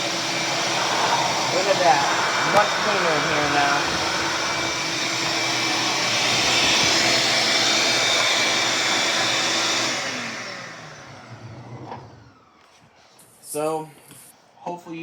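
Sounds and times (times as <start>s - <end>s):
shop vacuum whirring: 0.0s - 13.7s.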